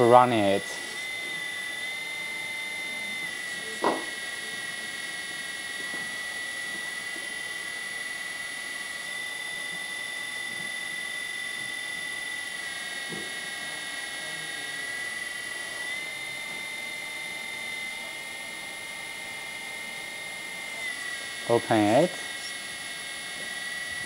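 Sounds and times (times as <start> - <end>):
hydraulic pumps whining: 0.0 - 24.0.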